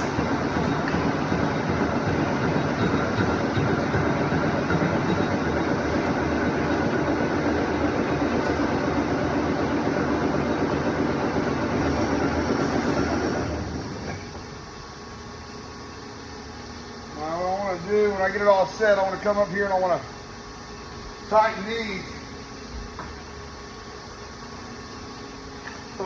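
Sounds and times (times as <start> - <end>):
lathe running: 0.0 - 26.0.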